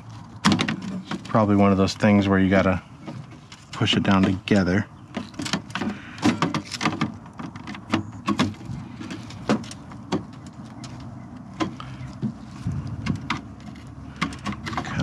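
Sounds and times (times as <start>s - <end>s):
low steady rumble: 0.0s - 15.0s
plastic parts clicking and knocking: 0.4s - 1.6s, 3.0s - 15.0s.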